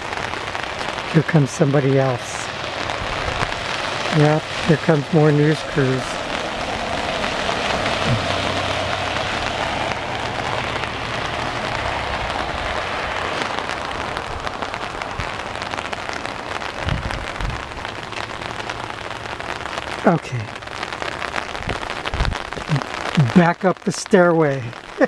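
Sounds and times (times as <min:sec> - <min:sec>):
light rain pattering: 0:00.0 - 0:25.0.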